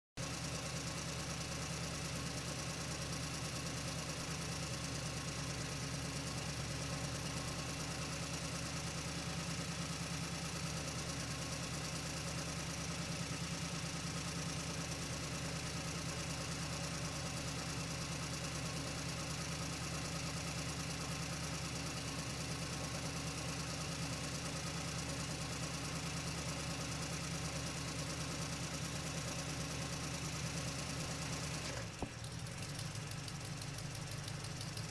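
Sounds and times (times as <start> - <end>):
truck engine running: 0.2 - 34.9.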